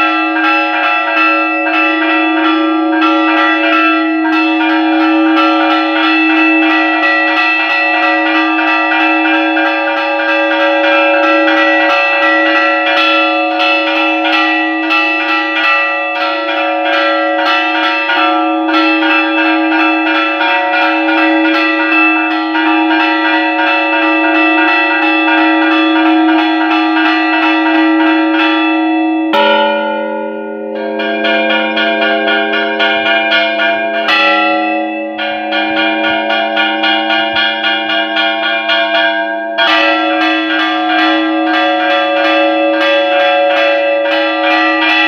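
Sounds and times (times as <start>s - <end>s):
church bells ringing rapidly: 0.0s - 45.0s
lower bell: 0.0s - 45.0s.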